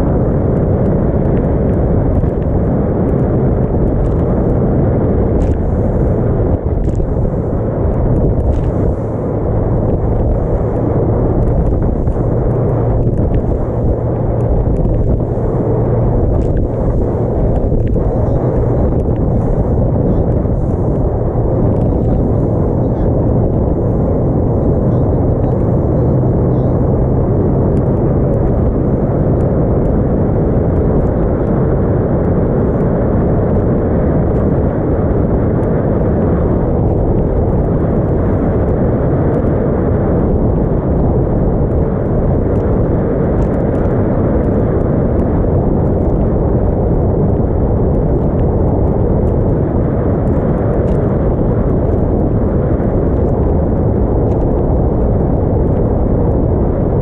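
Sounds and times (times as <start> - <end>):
boat engine low hum: 0.0 - 57.0
water rushing along hull: 0.0 - 57.0
wind buffeting microphone: 0.0 - 57.0.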